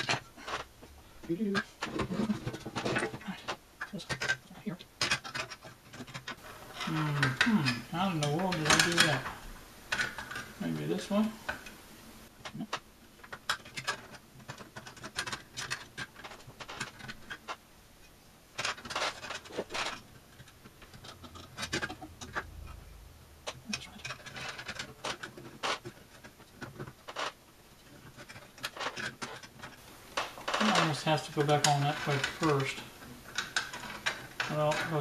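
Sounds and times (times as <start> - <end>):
metal parts scraping: 0.0 - 11.7, 18.6 - 35.0
metal parts clicking and tapping: 0.0 - 11.8, 12.4 - 17.6, 18.6 - 22.8, 23.4 - 35.0.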